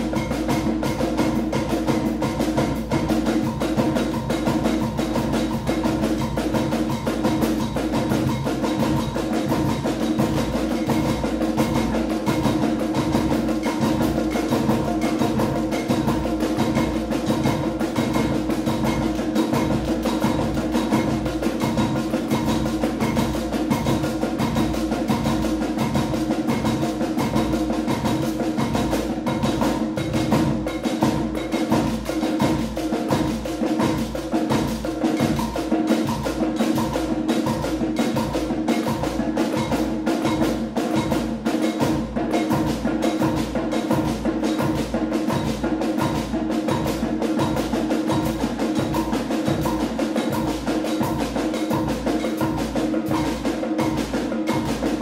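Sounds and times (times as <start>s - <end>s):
percussion ensemble playing: 0.0s - 55.0s.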